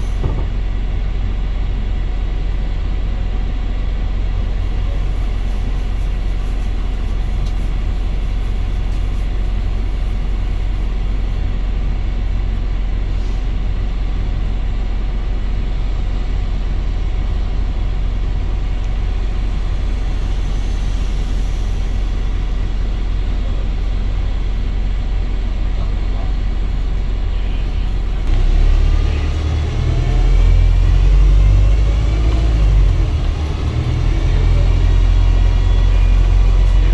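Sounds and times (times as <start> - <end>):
bus engine and road rumble: 0.0 - 36.9.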